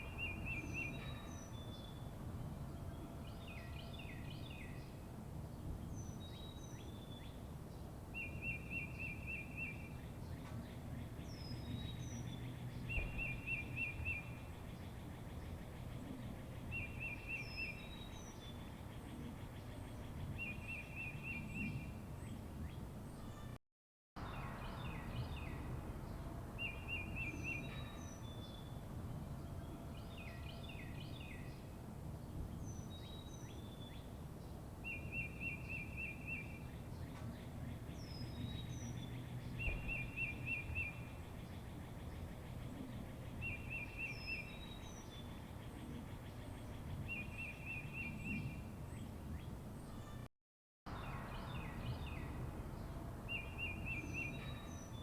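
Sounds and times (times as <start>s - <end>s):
songbirds chirping: 0.0s - 23.6s, 24.2s - 50.3s, 50.9s - 55.0s.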